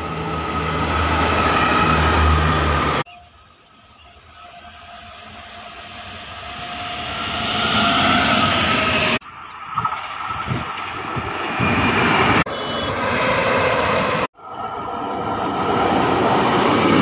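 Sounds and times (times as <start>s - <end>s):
train passing on rails: 0.0s - 17.0s.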